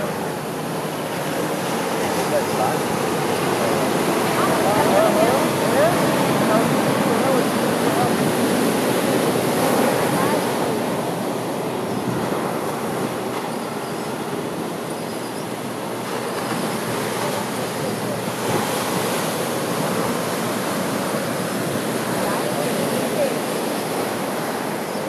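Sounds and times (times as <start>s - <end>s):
surf breaking and washing ashore: 0.0s - 25.0s.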